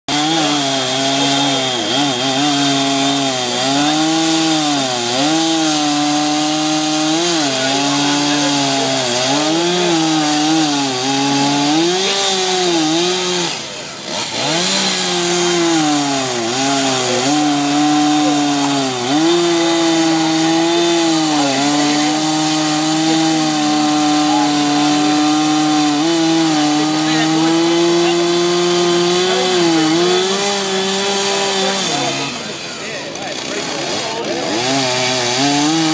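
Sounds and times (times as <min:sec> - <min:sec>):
chainsaw cutting wood: 0:00.1 - 0:35.9.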